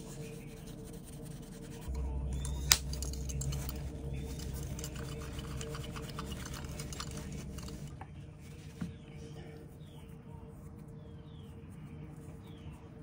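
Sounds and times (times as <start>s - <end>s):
low steady hum: 0.0s - 13.0s
scrubbing and rubbing strokes: 0.0s - 13.0s.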